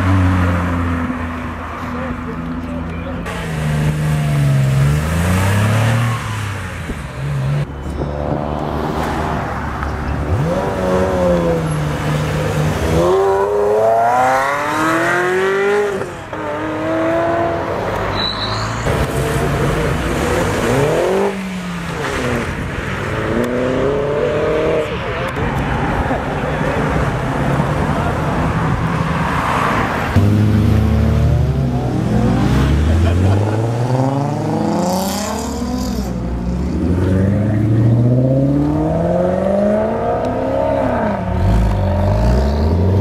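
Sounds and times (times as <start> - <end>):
sports car engines revving: 0.0 - 43.0.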